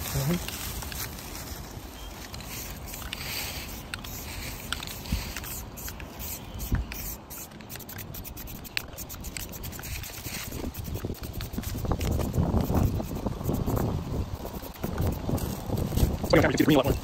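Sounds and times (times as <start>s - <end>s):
quick clicks and crackles: 0.1s - 1.4s, 2.2s - 16.5s
spray paint can hissing: 2.4s - 17.0s.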